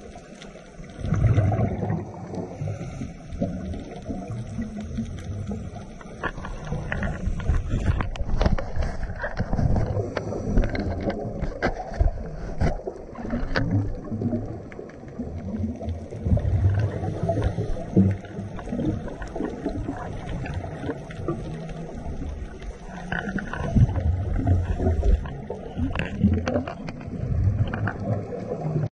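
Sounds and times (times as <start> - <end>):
bubbles gurgling: 0.0 - 8.3, 9.2 - 28.9
diver's regulator underwater: 0.0 - 28.9.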